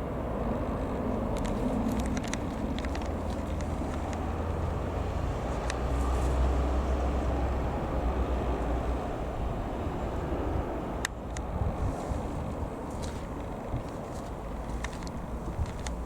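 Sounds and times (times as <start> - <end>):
distant light aircraft drone: 0.0 - 16.0.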